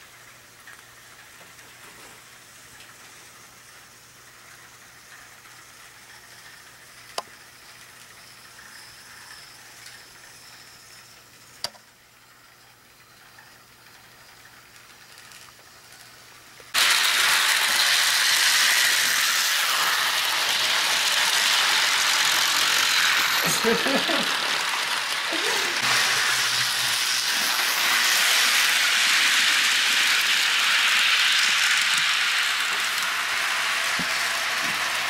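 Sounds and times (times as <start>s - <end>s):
model train wheels rattling: 0.0s - 35.0s
model train whirring: 0.0s - 35.0s.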